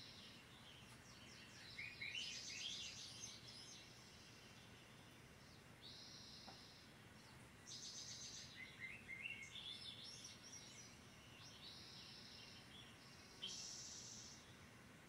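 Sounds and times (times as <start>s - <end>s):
low hiss: 0.0s - 15.0s
songbird chirps and trills: 0.0s - 15.0s.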